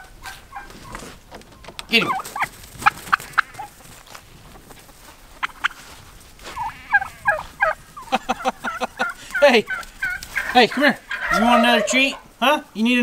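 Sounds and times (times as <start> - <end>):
turkeys gobbling: 0.0 - 4.2, 4.8 - 12.9.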